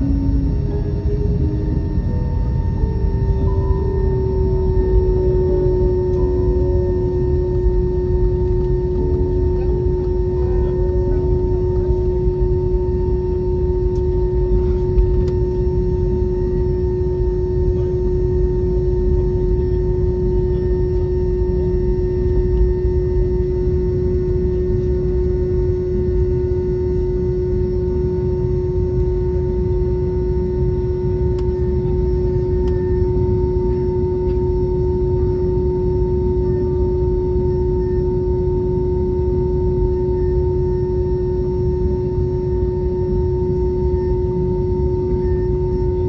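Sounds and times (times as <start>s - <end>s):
jet engines droning at idle: 0.0s - 46.0s.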